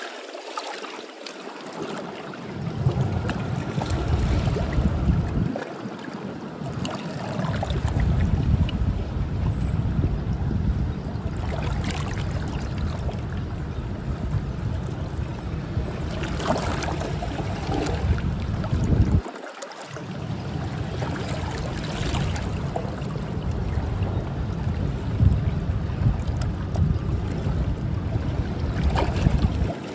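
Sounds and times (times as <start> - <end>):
rushing water: 0.0 - 9.6, 11.1 - 29.9
wind buffeting microphone: 2.4 - 19.3, 20.1 - 29.9.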